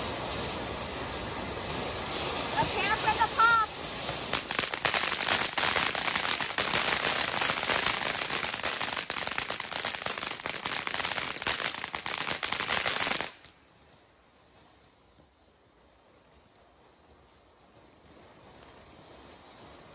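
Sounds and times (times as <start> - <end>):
fireworks popping and crackling: 0.0 - 19.9.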